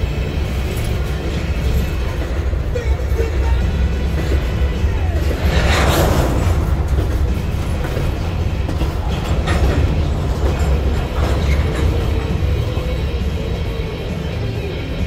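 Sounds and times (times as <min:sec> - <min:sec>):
freight train rumbling past: 0:00.0 - 0:15.0
metallic clanks from train wheels: 0:00.0 - 0:15.0.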